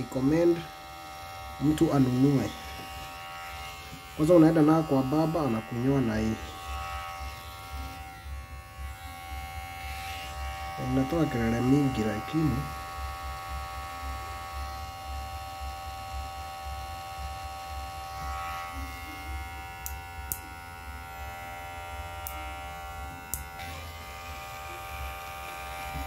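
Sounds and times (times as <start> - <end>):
hair clipper motor buzzing: 0.0 - 26.0.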